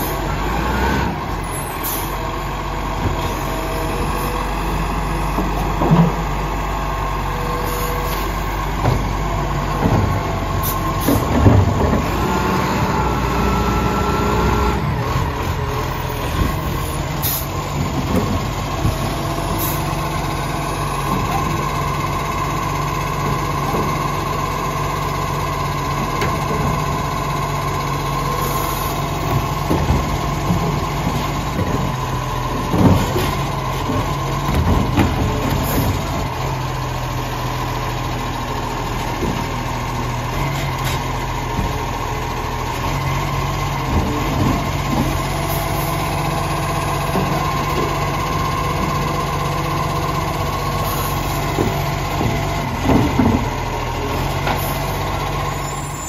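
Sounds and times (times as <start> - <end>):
garbage truck engine idling: 0.0 - 56.0.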